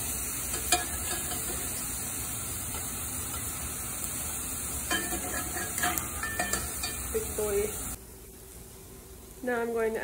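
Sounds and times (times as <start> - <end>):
mushrooms sizzling in a skillet: 0.0 - 10.0.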